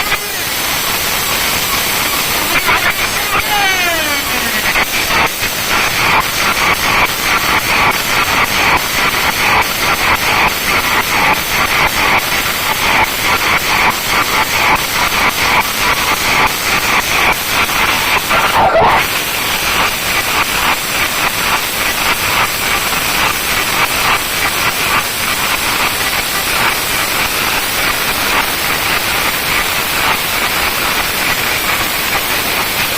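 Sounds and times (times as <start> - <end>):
sound system harsh hiss: 0.0 - 32.9.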